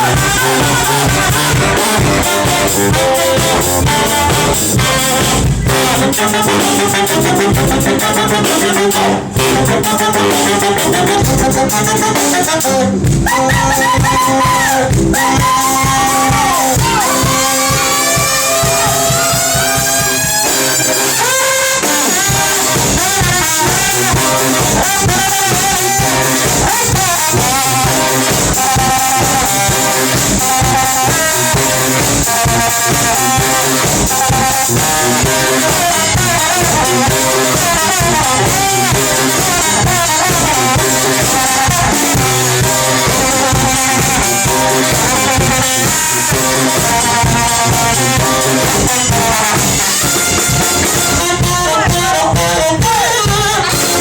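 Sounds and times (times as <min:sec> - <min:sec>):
drum kit: 0:00.0 - 0:54.0
horns playing: 0:00.0 - 0:54.0
sousaphone: 0:00.0 - 0:54.0.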